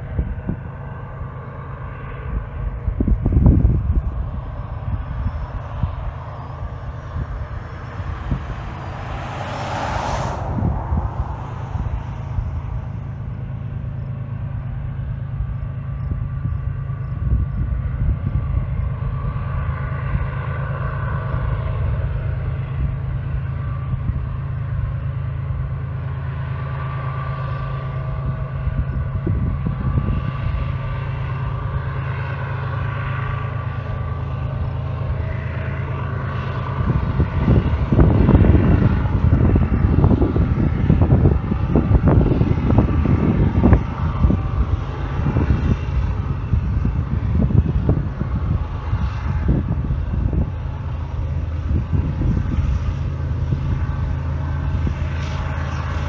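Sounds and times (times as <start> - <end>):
distant diesel locomotive rumble: 0.0 - 56.0.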